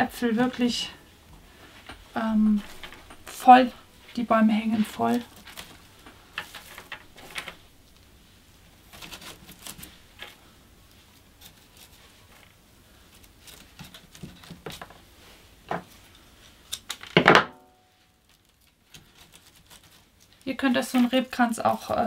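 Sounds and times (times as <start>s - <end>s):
dry twigs rustling and crackling: 0.0s - 17.1s, 17.9s - 22.0s.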